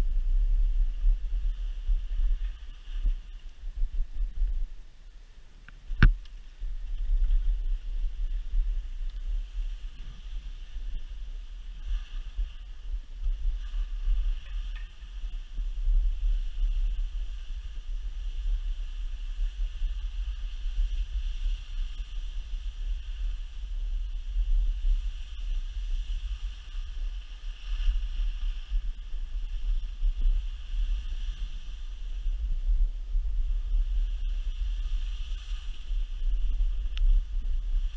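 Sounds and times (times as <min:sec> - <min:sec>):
wind buffeting microphone: 0:00.0 - 0:37.9
skis sliding over packed snow: 0:00.1 - 0:04.8, 0:06.4 - 0:37.9.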